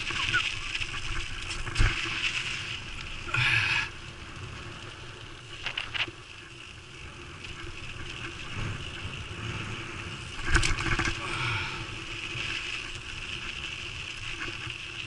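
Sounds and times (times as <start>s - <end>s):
bike rattling: 0.0s - 15.0s
bike tyres on dirt trail: 0.0s - 15.0s.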